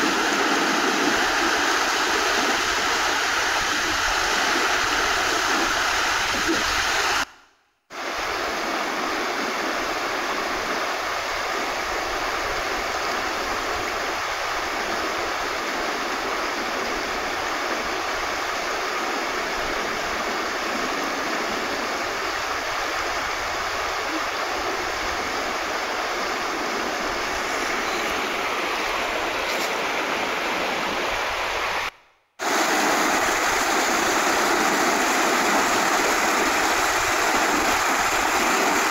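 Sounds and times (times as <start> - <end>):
creek rushing over rocks: 0.0 - 7.3, 7.9 - 38.9.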